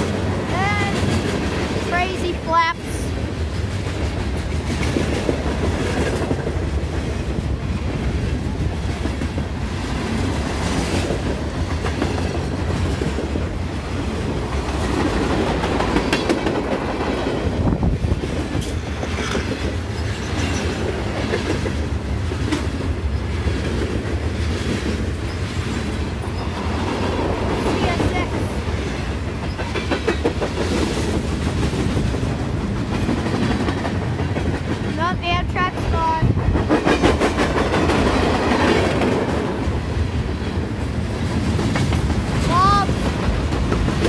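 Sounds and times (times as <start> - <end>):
steel wheels rumbling on rail: 0.0 - 44.0.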